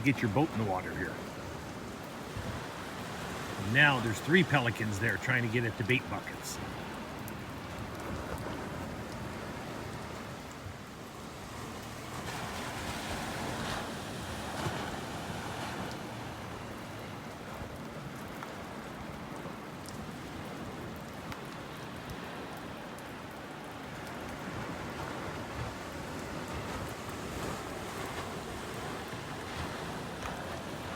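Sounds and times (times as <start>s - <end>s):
faint surf: 0.0s - 30.9s
steady rain falling: 0.0s - 30.9s.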